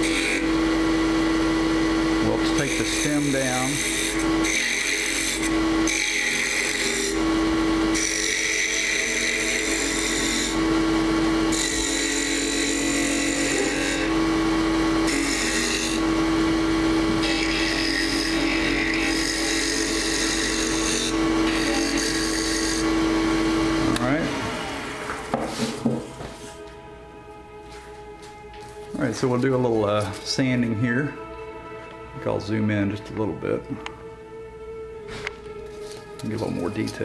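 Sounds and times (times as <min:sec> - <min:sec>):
wood lathe humming: 0:00.0 - 0:37.0.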